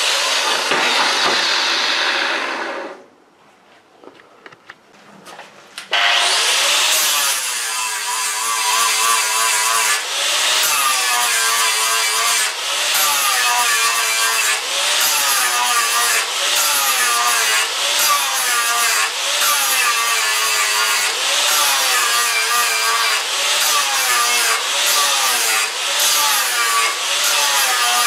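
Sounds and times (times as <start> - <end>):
angle grinder grinding steel: 0.0 - 3.0, 5.9 - 28.0.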